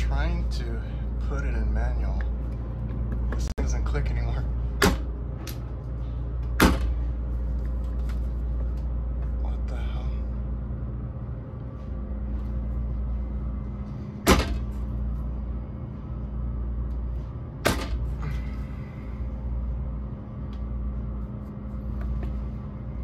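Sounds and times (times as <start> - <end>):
low machinery hum: 0.0 - 23.0.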